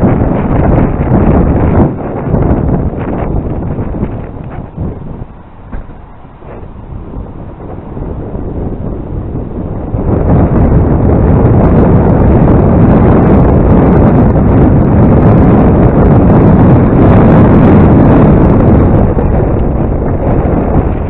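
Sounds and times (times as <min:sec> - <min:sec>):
strong wind on microphone: 0:00.0 - 0:21.0.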